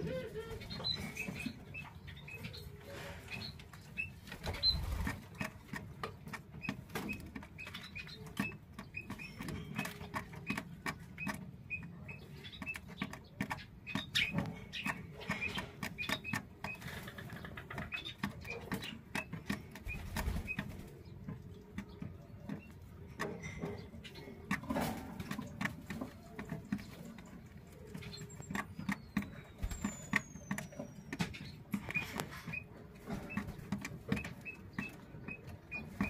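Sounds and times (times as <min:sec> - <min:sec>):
squabs squeaking: 0:00.0 - 0:36.0.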